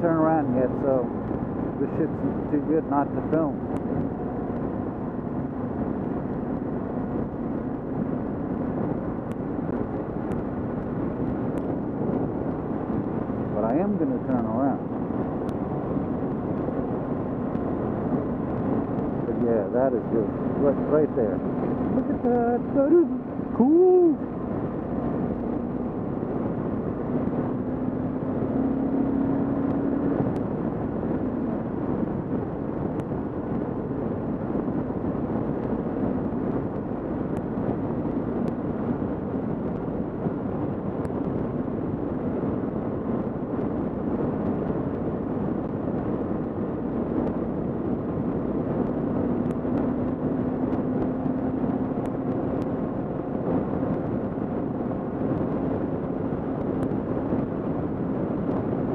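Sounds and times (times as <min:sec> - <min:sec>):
motorcycle engine hum: 0:00.0 - 0:58.9
wind and road noise: 0:00.0 - 0:58.9.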